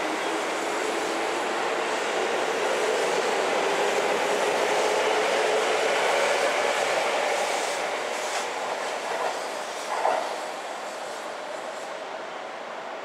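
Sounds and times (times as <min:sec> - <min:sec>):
electric train running past: 0:00.0 - 0:13.0.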